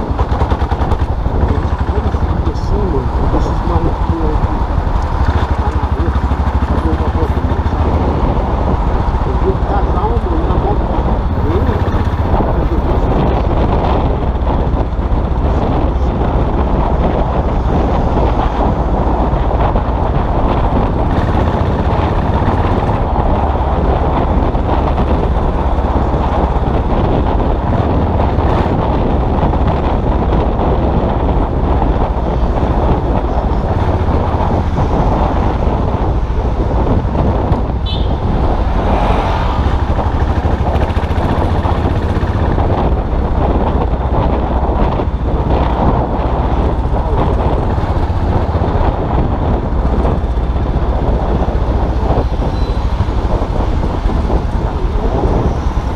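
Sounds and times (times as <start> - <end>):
motorcycle engine running: 0.0 - 55.9
road and traffic noise: 0.0 - 55.9.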